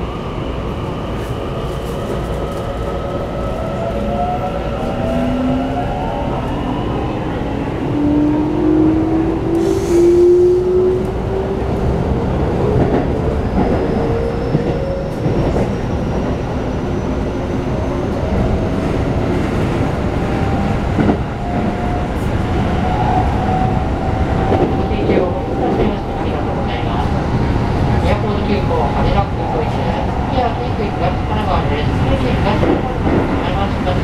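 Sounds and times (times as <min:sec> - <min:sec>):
wheels rumbling on rail: 0:00.0 - 0:34.0.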